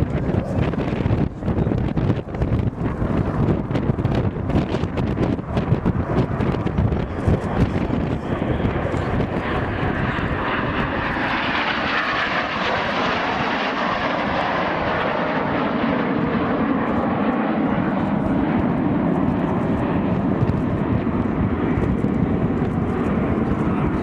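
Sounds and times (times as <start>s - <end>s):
aircraft engine roar flying past: 0.0s - 24.0s.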